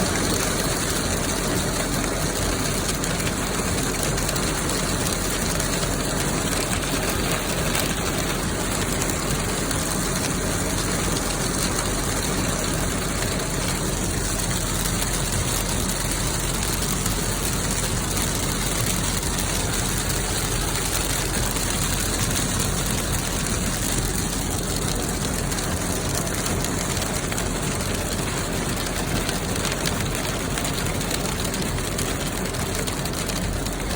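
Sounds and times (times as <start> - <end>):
hailstones pelting down: 0.0 - 33.9.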